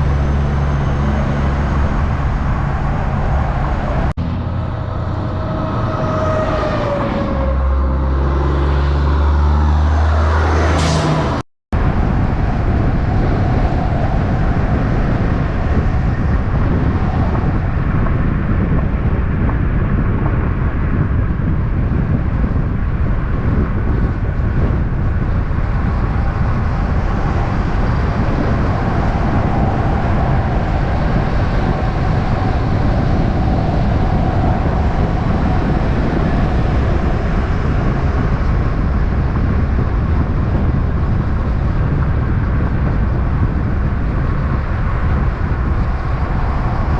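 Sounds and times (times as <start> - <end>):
vehicle road rumble: 0.0 - 46.9.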